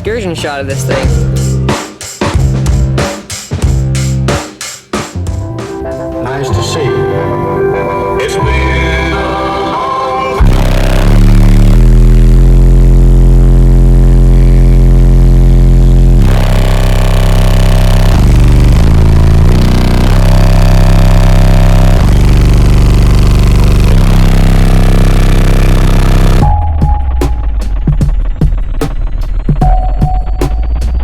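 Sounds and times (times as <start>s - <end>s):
loud sustained bass notes: 0.0s - 1.8s, 5.3s - 31.0s.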